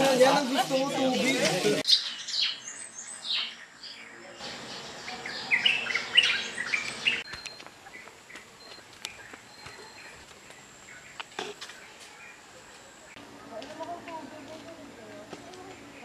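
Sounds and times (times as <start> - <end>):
birds chirping: 1.8 - 16.0.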